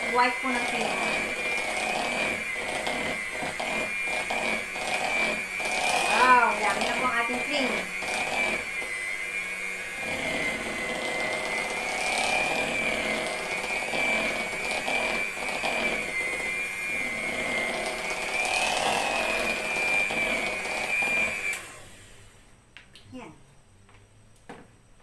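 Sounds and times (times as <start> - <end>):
electric mixer whining: 0.0 - 22.5.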